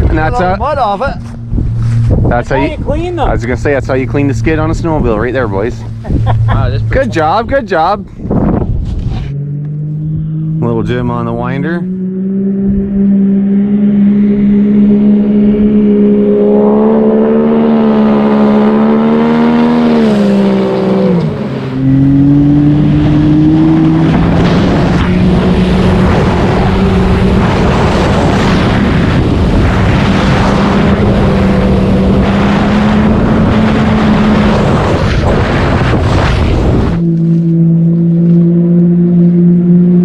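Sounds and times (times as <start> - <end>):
wind rush on microphone: 0.0 - 9.4, 12.5 - 37.5
snowmobile engine revving: 0.0 - 40.0.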